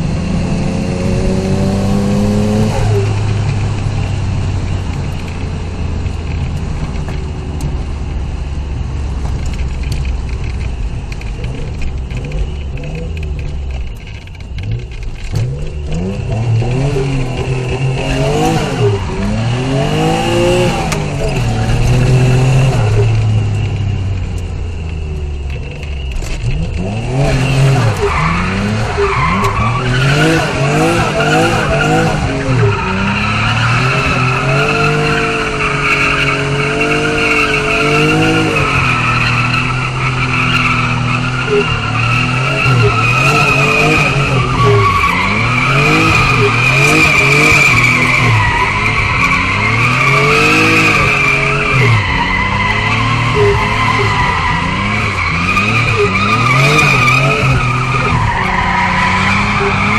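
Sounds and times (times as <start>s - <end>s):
car engine revving: 0.0s - 59.9s
tyres squealing: 10.5s - 59.9s.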